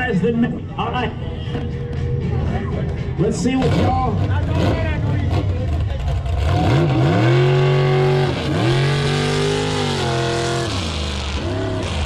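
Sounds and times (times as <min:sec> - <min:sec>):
truck engine revving: 0:01.2 - 0:12.0.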